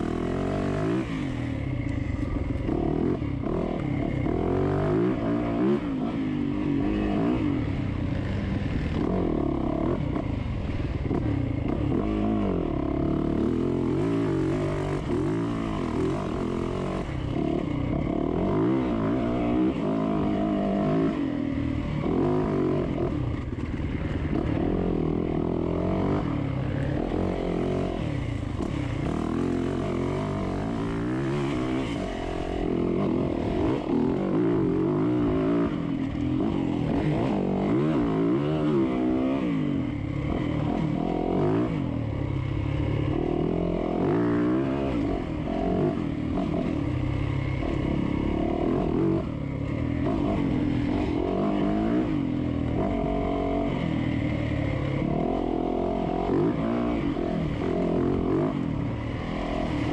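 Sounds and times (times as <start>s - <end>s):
dirt bike engine revving: 11.1s - 59.9s.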